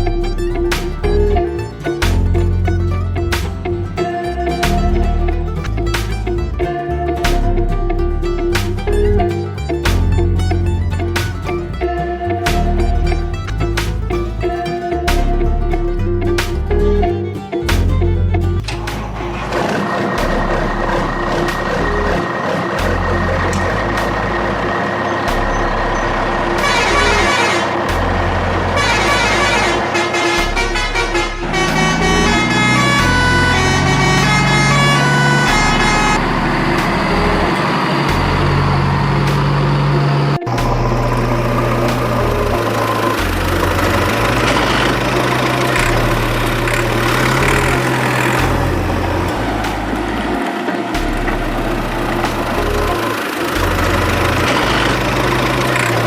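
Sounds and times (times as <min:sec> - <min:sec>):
electronic music: 0:00.0 - 0:56.0
motor engine humming: 0:00.0 - 0:56.0.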